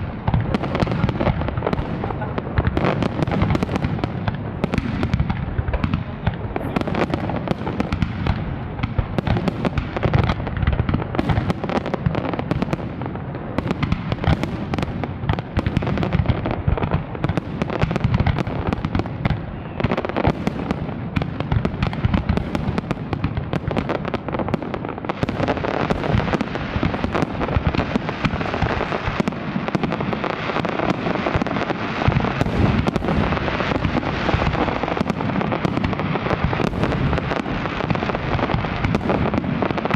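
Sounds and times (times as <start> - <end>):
fireworks barrage of bangs: 0.0 - 39.9.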